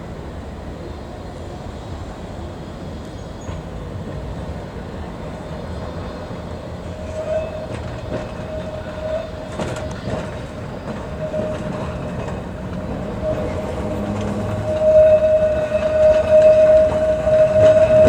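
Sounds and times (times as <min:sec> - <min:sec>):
tram rumbling along track: 0:00.0 - 0:18.0.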